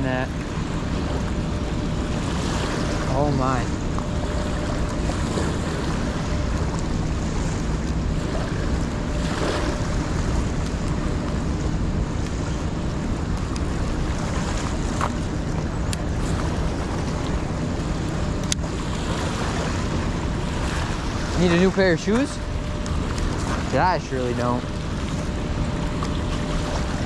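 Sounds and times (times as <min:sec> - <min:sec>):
water lapping: 0:00.0 - 0:27.0.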